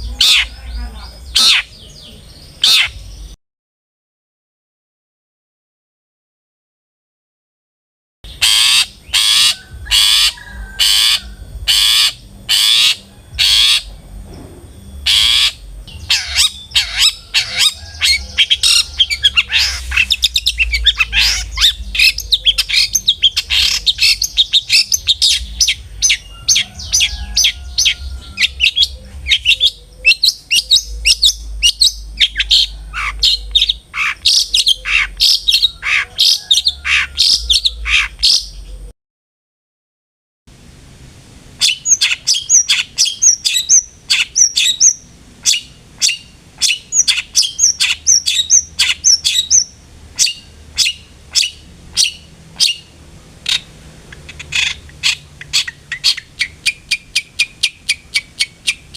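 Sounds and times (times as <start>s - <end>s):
bird chattering song: 0.0s - 3.4s, 8.3s - 14.0s, 14.7s - 38.9s, 41.6s - 58.9s
bird harsh rasping calls: 0.0s - 3.4s, 8.3s - 13.9s, 15.0s - 38.8s, 41.6s - 58.9s.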